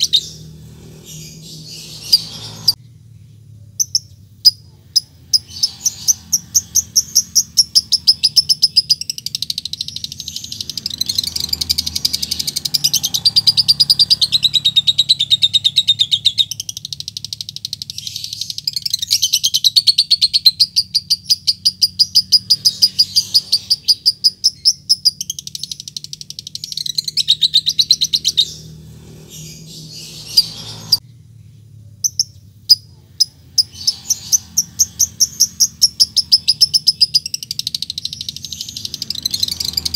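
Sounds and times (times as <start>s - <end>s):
lovebird high-pitched chatter: 0.0s - 2.8s, 3.8s - 31.0s, 32.0s - 39.9s.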